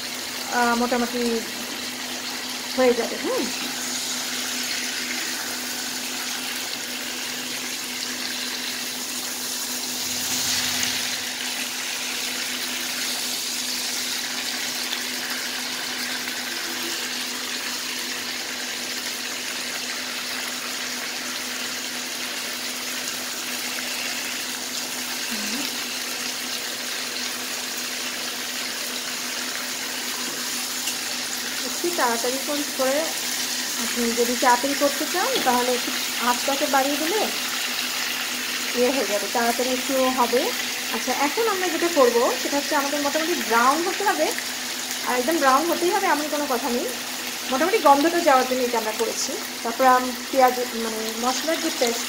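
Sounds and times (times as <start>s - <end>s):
chicken frying in oil: 0.0s - 52.0s.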